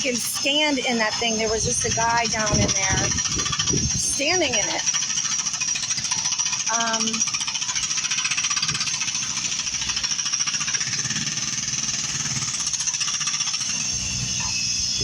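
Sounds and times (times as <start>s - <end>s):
jackhammer hammering: 0.0s - 15.0s.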